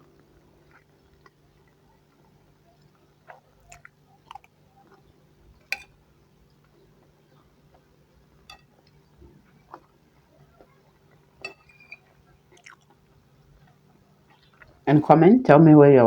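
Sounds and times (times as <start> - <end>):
person chewing food: 0.0 - 14.8.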